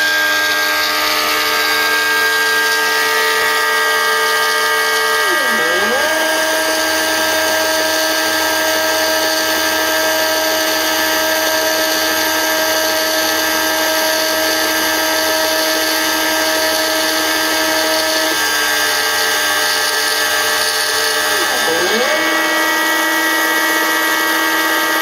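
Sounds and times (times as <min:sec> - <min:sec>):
router spindle cutting plastic: 0:00.0 - 0:25.0
stepper motor tones: 0:00.0 - 0:25.0.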